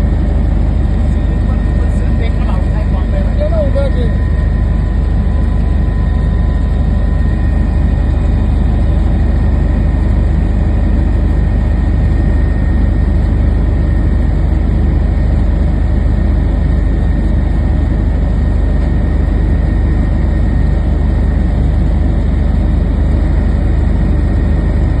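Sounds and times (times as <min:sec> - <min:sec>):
aircraft in flight rumble: 0:00.0 - 0:25.0.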